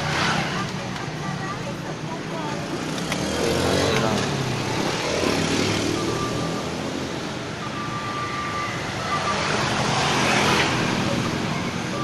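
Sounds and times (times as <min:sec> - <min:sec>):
car engines passing: 0:00.0 - 0:12.0
motorbike engines passing: 0:00.0 - 0:12.0.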